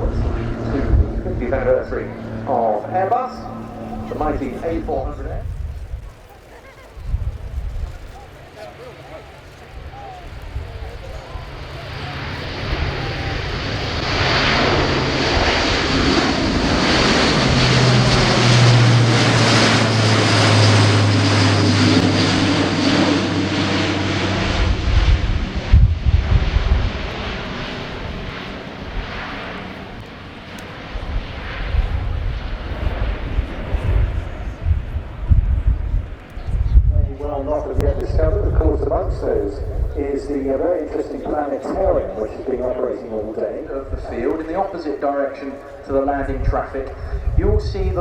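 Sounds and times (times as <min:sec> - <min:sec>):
gusty low rumbles: 0:00.0 - 0:08.4, 0:09.7 - 0:44.8, 0:45.8 - 0:48.0
high turbine whine: 0:00.0 - 0:48.0
propeller aircraft passing: 0:00.0 - 0:48.0.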